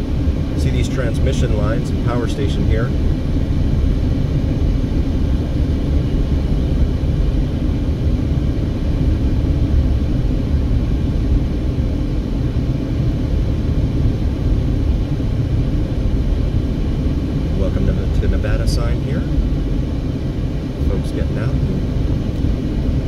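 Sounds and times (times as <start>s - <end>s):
car interior road and engine rumble: 0.0s - 23.0s.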